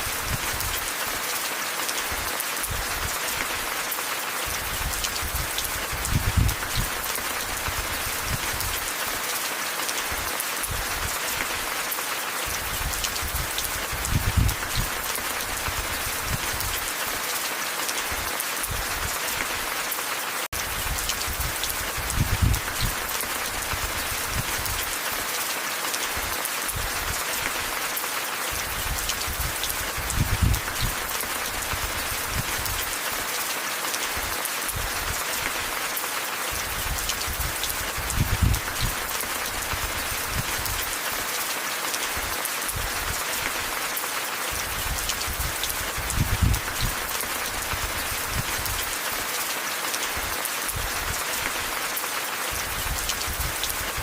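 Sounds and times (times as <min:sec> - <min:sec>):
rain falling and pattering: 0:00.0 - 0:54.0.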